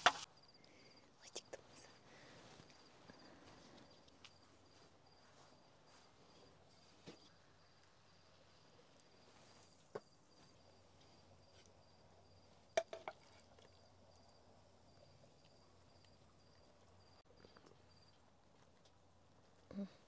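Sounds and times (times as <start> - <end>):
crickets chirping: 0.0 - 19.3.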